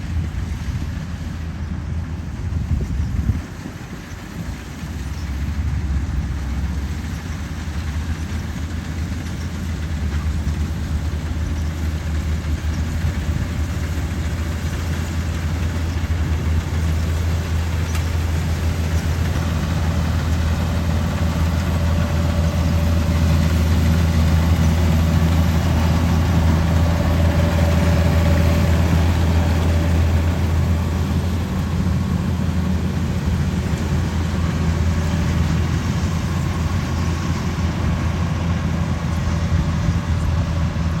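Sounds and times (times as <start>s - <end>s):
diesel engine humming: 0.0s - 41.0s.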